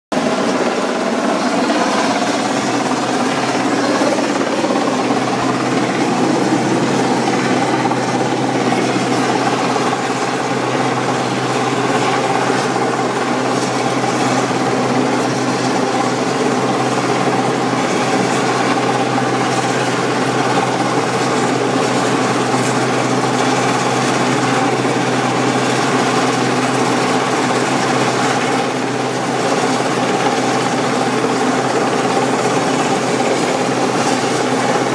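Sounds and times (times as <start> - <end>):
helicopter hovering: 0.1 - 34.9.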